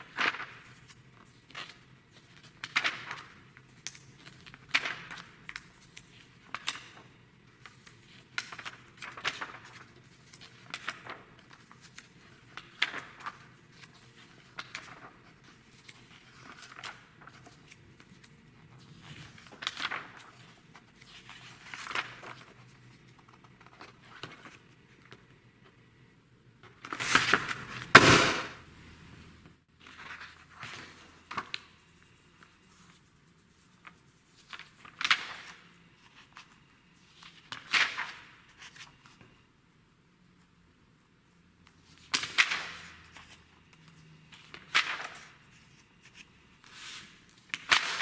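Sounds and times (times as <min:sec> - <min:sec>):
magazine pages turning: 0:00.0 - 0:25.3, 0:26.8 - 0:28.5, 0:29.8 - 0:39.3, 0:41.8 - 0:48.0.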